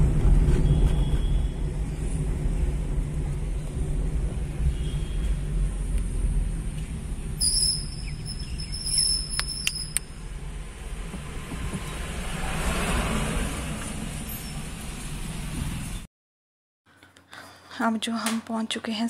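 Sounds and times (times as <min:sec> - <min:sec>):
car road and engine rumble: 0:00.0 - 0:16.1.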